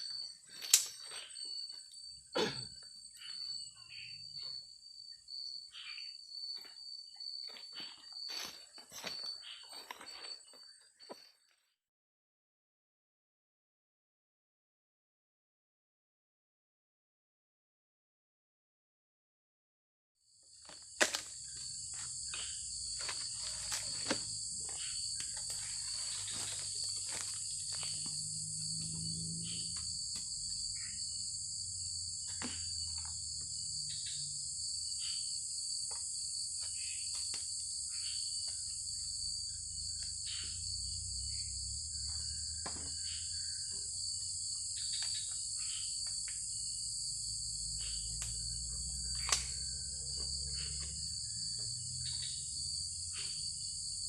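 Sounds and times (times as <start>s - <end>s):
crickets and insects chirring: 0.0s - 11.4s, 20.3s - 54.0s.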